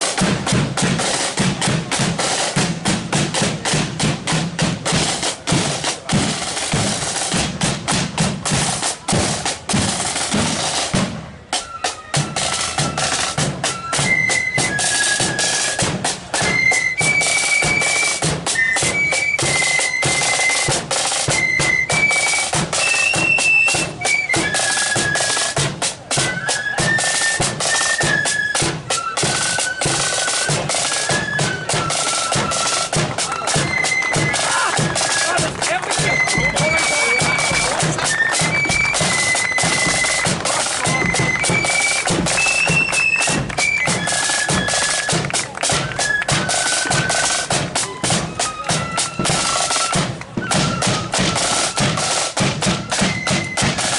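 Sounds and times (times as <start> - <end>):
snare and bass drums march: 0.0 - 53.9
flutes playing melody: 8.5 - 53.9.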